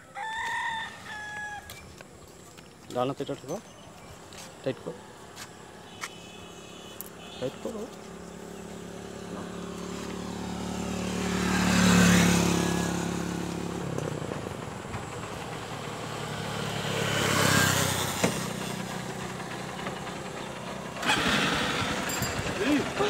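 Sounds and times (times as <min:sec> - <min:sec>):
motor vehicles passing by: 0:00.0 - 0:23.0.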